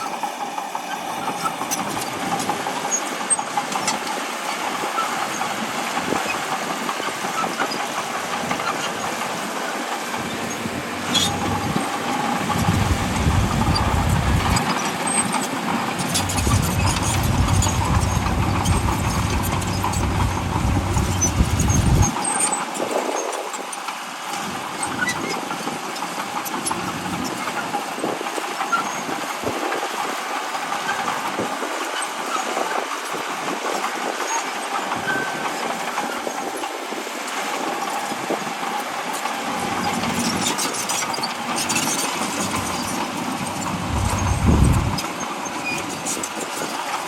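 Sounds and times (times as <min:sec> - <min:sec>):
tracks clanking: 0:00.0 - 0:22.5, 0:29.8 - 0:47.0
bulldozer diesel engine: 0:00.0 - 0:47.0.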